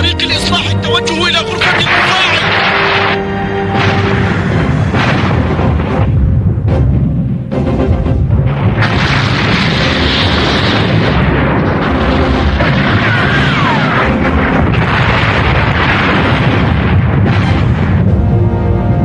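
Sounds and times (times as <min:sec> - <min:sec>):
dramatic music score: 0:00.0 - 0:19.0
cartoon explosions: 0:01.6 - 0:07.5, 0:08.3 - 0:19.0
cannon fire: 0:01.7 - 0:07.3, 0:08.4 - 0:18.4.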